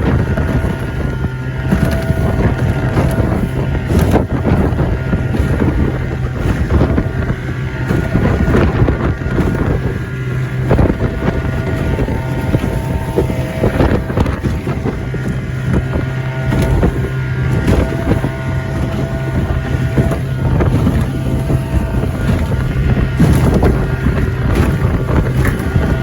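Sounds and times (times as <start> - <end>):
boat motor running: 0.0 - 26.0
hull slapping against waves: 0.0 - 26.0
wind buffeting microphone: 0.0 - 26.0.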